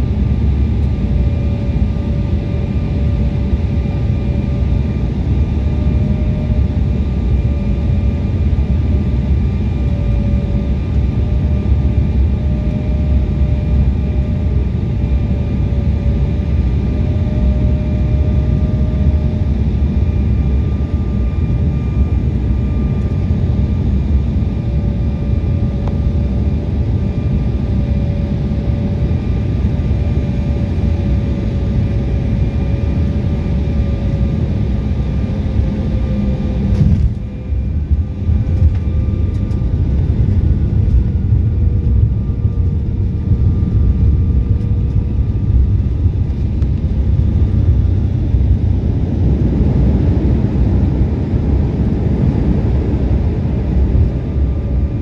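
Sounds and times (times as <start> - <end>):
engine fan whine: 0.0 - 55.0
jet engines rumbling in cabin: 0.0 - 55.0.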